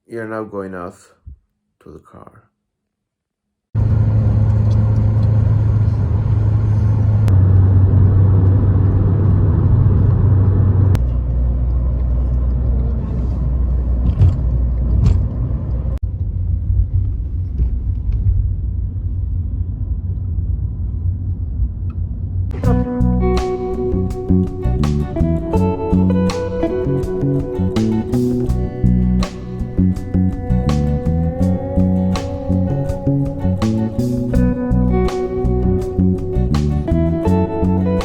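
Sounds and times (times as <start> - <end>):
car engine and road noise: 3.8 - 38.0.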